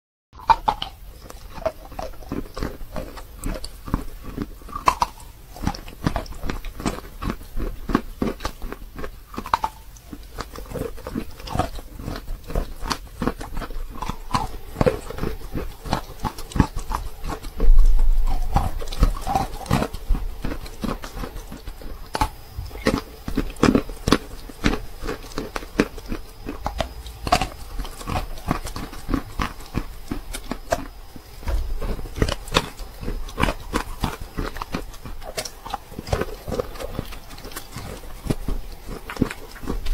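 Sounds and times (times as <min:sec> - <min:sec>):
biting and chewing chalk: 0:00.4 - 0:39.9.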